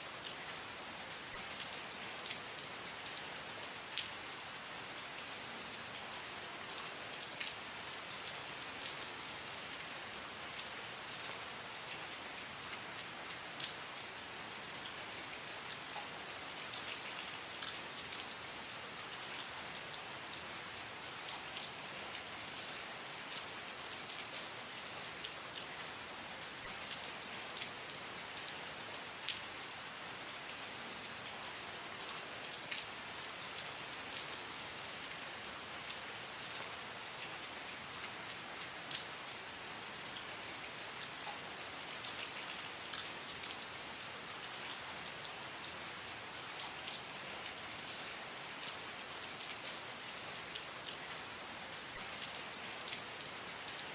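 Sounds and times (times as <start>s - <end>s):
rain drops pattering on hard surface: 0.1s - 53.9s.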